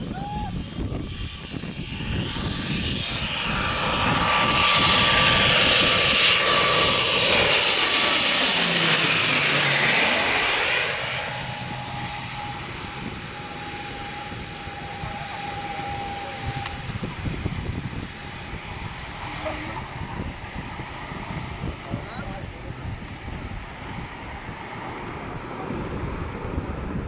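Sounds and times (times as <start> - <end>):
turboprop airliner flying overhead: 0.0 - 27.0.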